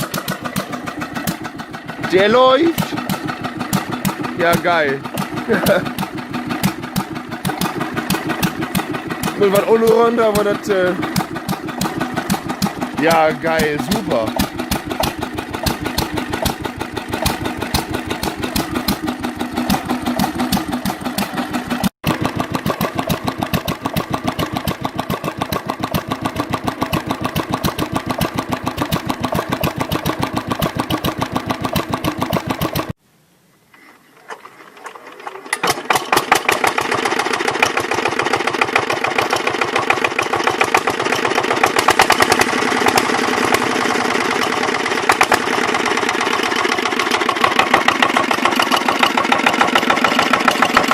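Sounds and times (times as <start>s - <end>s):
diesel engine running: 0.0s - 33.0s, 35.6s - 50.9s
second engine starting up: 0.0s - 33.0s, 33.9s - 50.9s.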